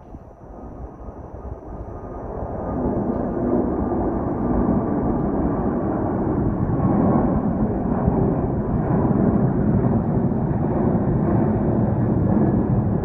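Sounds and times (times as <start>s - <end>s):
jet engines rumbling at takeoff: 0.0s - 13.0s.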